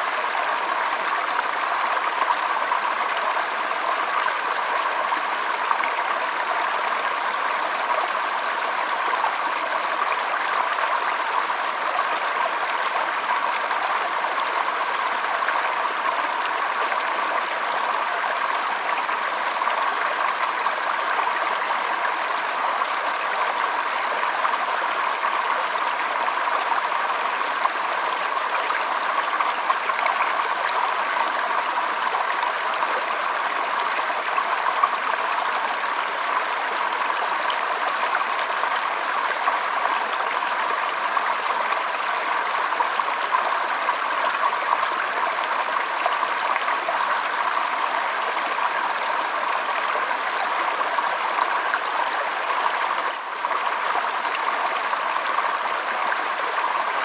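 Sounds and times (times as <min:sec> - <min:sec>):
water flowing in a stream: 0:00.0 - 0:57.0.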